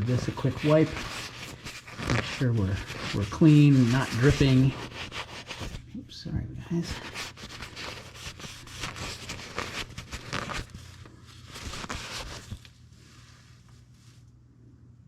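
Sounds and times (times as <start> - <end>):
rustling and scraping handling noises: 0.0 - 5.9, 6.8 - 14.3
faint steady hum: 0.0 - 15.0.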